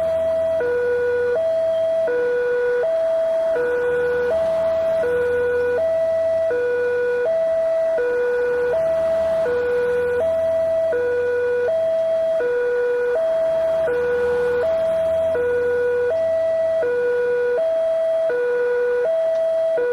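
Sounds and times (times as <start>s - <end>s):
level crossing two-tone siren: 0.0s - 19.9s.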